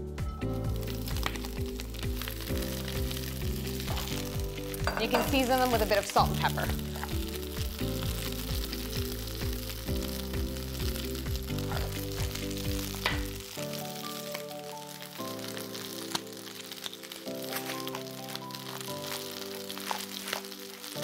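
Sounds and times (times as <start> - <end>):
background music: 0.0 - 21.0
vegetables sizzling in oil: 0.5 - 21.0.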